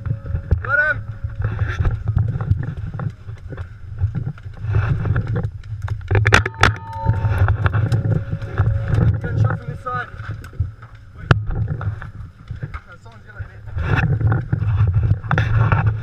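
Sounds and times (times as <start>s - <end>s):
wind rumbling on microphone: 0.0s - 16.0s
sharp cracks: 0.6s - 14.2s.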